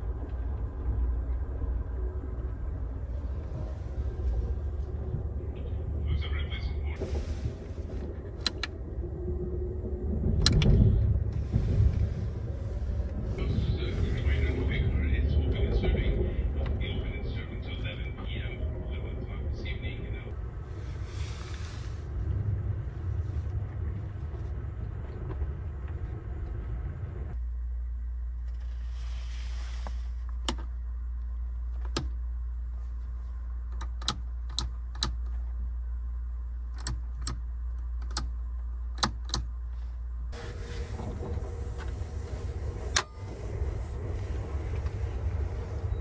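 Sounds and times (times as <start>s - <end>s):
moving train rumble: 0.0s - 46.0s
steady low hum: 0.0s - 46.0s.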